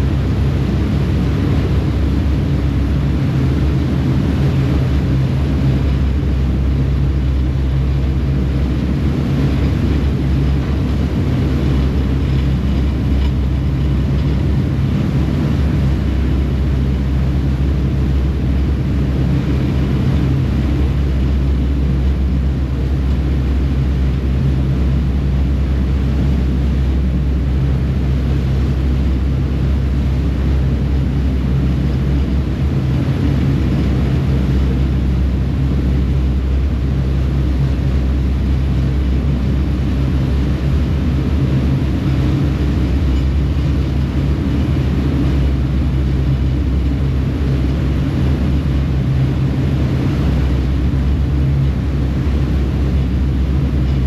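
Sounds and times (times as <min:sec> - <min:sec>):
ferry engines droning: 0:00.0 - 0:54.0
water rushing in wake: 0:00.0 - 0:54.0.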